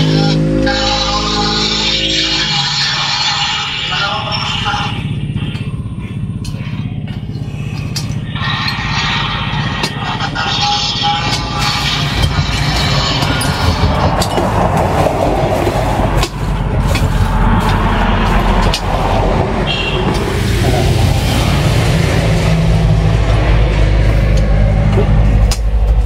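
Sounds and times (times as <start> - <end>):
low engine-like hum: 0.0 - 26.0.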